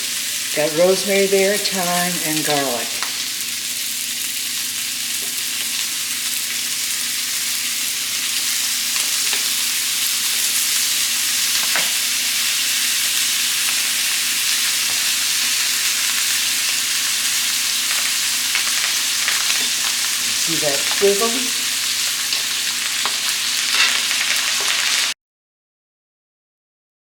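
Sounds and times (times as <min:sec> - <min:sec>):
steaks sizzling in a skillet: 0:00.0 - 0:25.2.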